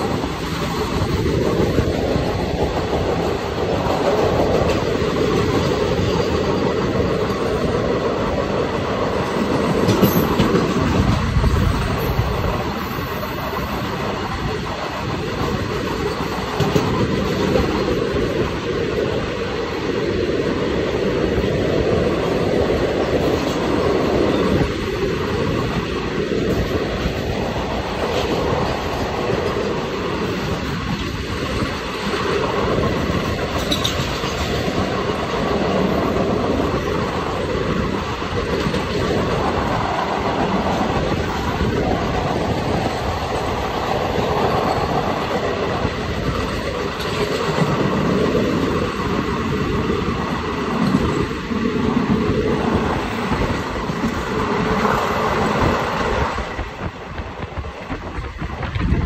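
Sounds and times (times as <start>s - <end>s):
trains rumbling and clattering: 0.0s - 59.0s
wheels clicking over rail joints: 0.0s - 59.0s.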